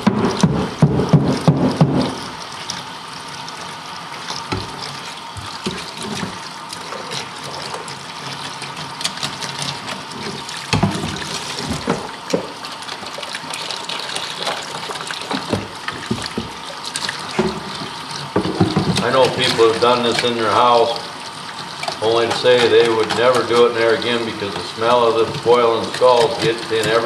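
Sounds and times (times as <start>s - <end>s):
running water splashing: 0.0s - 27.0s.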